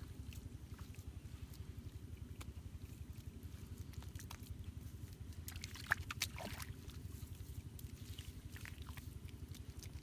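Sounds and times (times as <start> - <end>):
steady low rumble: 0.0 - 10.0
wet mud squelching and slapping: 0.0 - 10.0.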